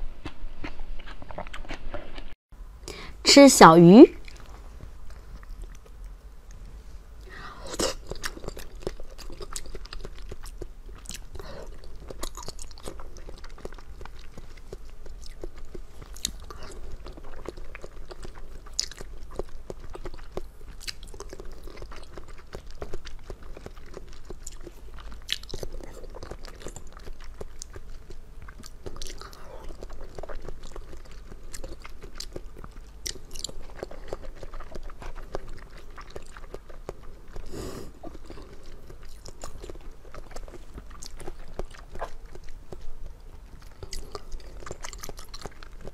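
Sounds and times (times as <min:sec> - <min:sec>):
chewing jelly candies: 0:04.1 - 0:06.6, 0:07.2 - 0:45.9.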